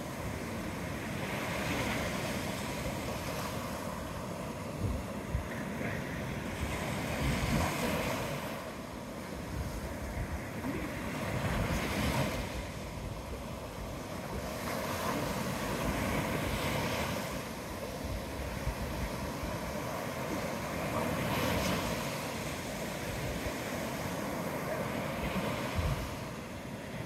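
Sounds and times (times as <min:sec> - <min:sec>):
surf breaking on beach: 0:00.0 - 0:27.0
wind rumbling on microphone: 0:00.0 - 0:27.0.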